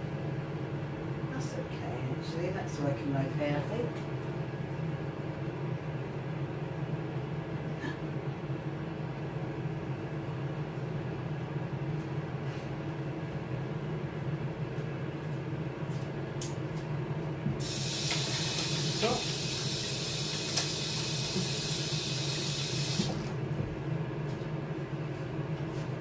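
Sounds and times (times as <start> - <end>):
air fryer fan humming: 0.0 - 26.0.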